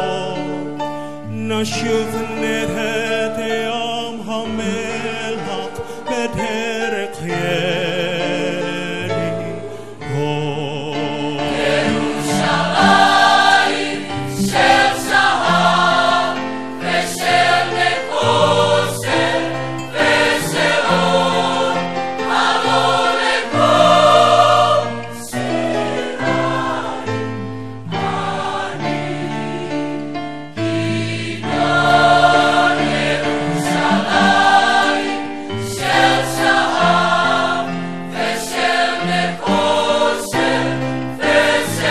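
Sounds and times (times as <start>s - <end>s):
mixed choir singing in harmony: 0.0s - 1.0s, 7.8s - 41.9s.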